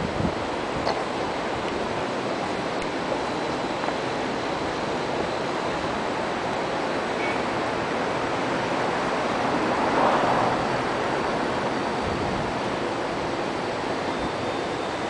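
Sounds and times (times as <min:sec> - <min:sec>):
city street rushing noise: 0:00.0 - 0:15.0.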